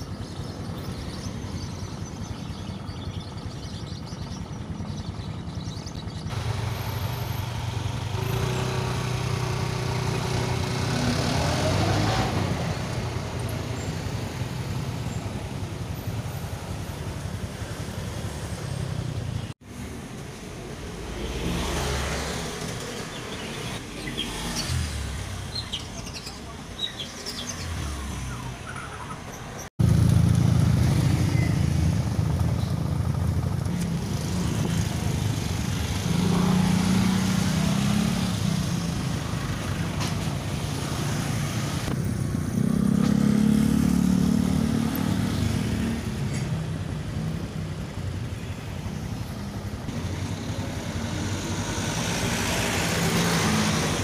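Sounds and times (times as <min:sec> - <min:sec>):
motorcycles and cars passing: 0:00.0 - 0:54.0.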